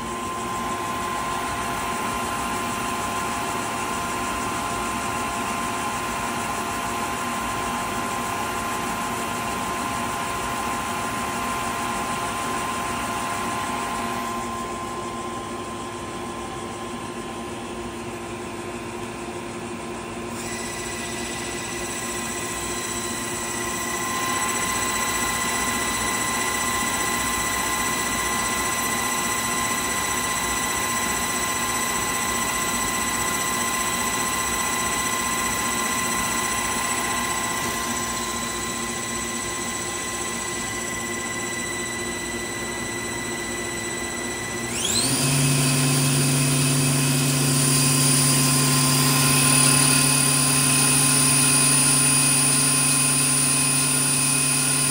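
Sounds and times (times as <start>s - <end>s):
lathe spindles whining: 0.0s - 54.9s.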